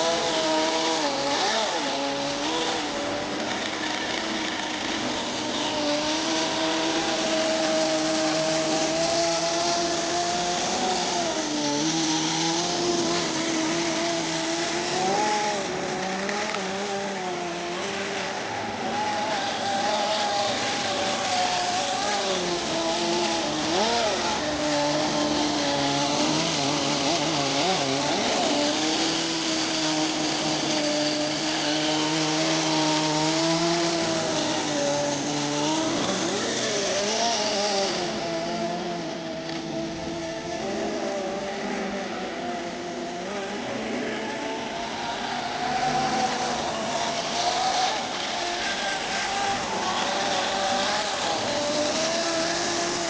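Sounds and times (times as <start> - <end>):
small nitro engine revving: 0.0 - 53.0.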